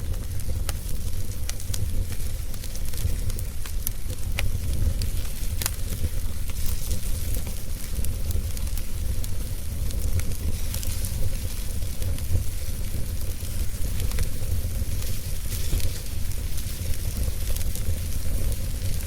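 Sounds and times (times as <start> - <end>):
campfire wood crackling: 0.0 - 19.0.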